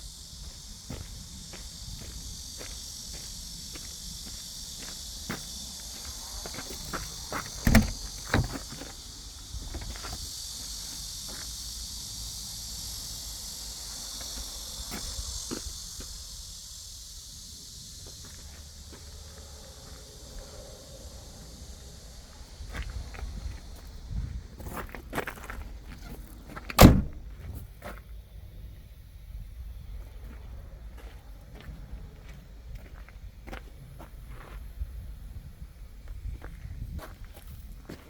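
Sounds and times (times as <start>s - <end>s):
steady high-pitched hiss: 0.0s - 38.0s.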